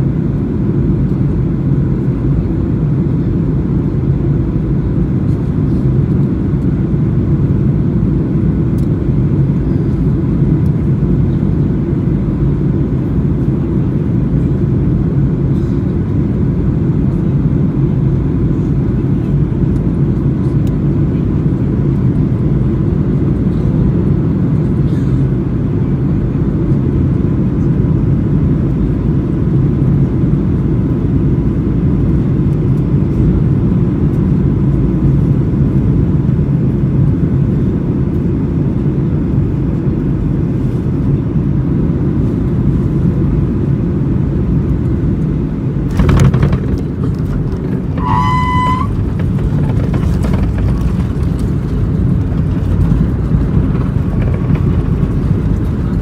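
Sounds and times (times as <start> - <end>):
airplane engine rumble: 0.0 - 56.0.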